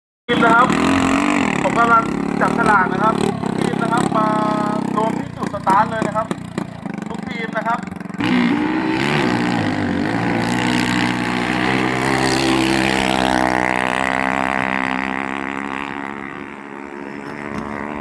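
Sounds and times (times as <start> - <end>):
racing boat engine at high revs: 0.3 - 18.0.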